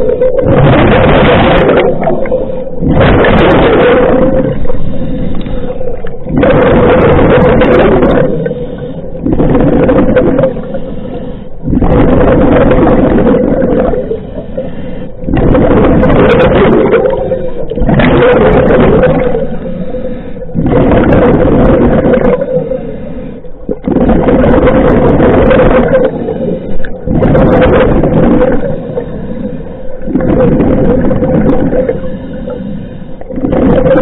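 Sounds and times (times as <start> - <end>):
exhaled bubbles rushing: 0.0 - 32.6, 33.2 - 34.0
diver inhaling through regulator: 4.1 - 17.8, 19.1 - 25.0, 25.8 - 33.8.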